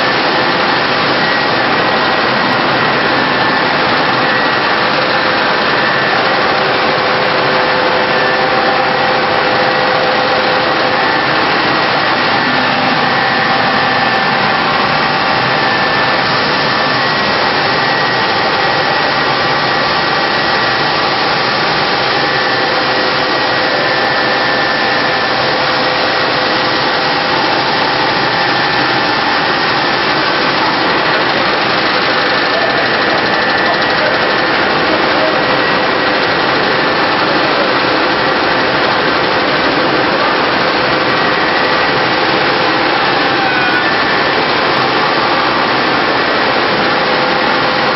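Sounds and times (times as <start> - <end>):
grain separator machine shaking: 0.0 - 47.9
machine humming tones: 0.0 - 47.9.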